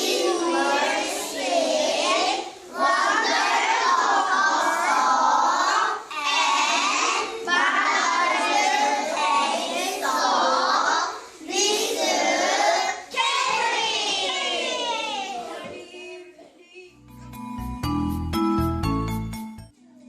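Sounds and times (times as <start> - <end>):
young children singing: 0.0 - 16.6.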